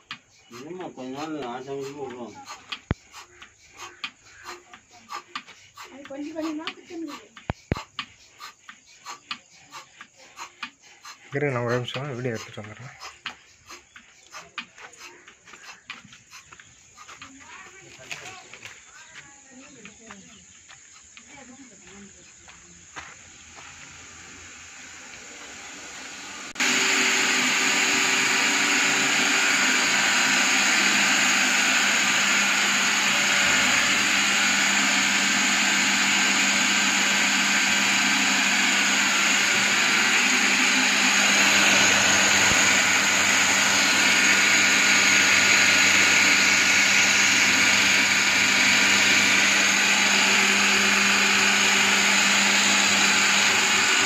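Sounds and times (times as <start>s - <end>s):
vacuum pump whirring: 0.0s - 20.2s, 23.0s - 54.0s.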